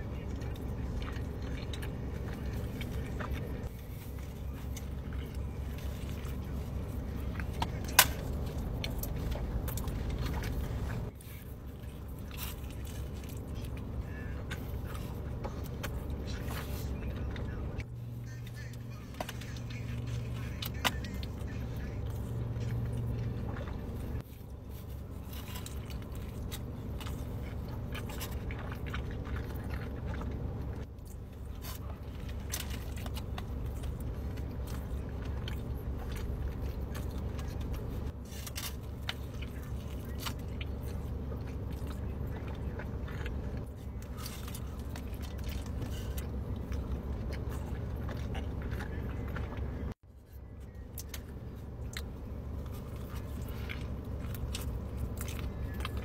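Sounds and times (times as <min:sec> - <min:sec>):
low hum in car cabin: 0:00.0 - 0:56.0
person chewing: 0:00.0 - 0:56.0.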